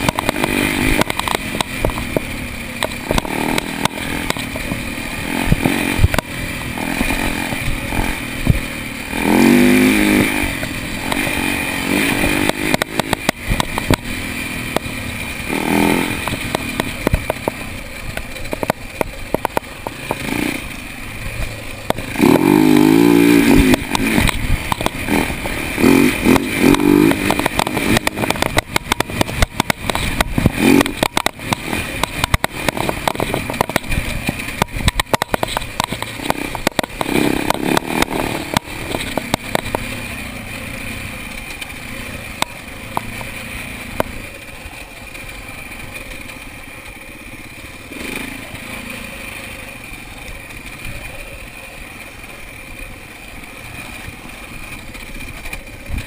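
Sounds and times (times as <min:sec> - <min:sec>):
bike knocking and rattling: 0:00.0 - 0:56.0
dirt bike engine revving: 0:00.0 - 0:56.0.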